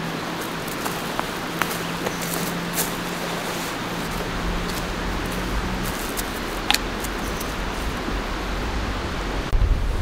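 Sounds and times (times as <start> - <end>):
footsteps rustling dry leaves: 0.0 - 8.4
river rushing: 0.0 - 9.5.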